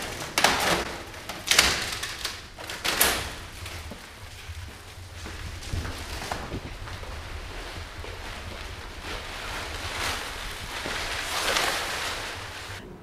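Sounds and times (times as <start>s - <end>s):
plastic wrap rustling and crinkling: 0.0s - 13.0s.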